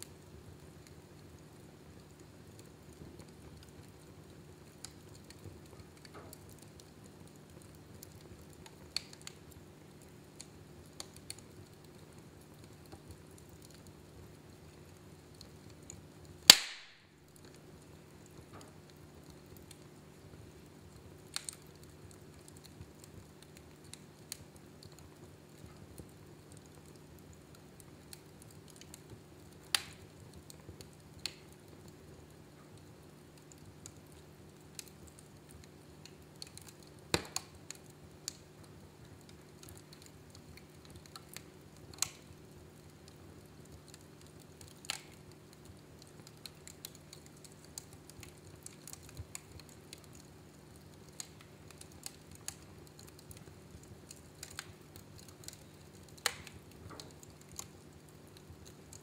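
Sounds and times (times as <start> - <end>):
faint steady hum: 0.0 - 59.0
wood fire crackling: 0.0 - 59.0.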